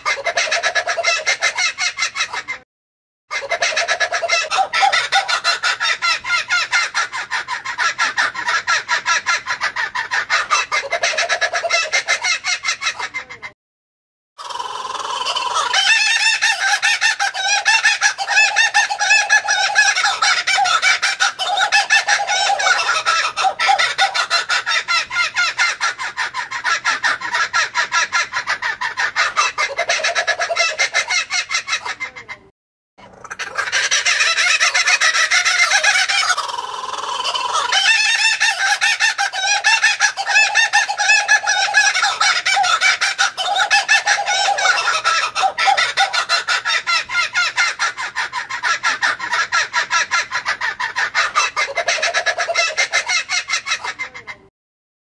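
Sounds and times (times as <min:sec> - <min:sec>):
kookaburra laughing calls: 0:00.0 - 0:02.6, 0:03.3 - 0:13.5, 0:14.4 - 0:32.4, 0:33.0 - 0:54.5.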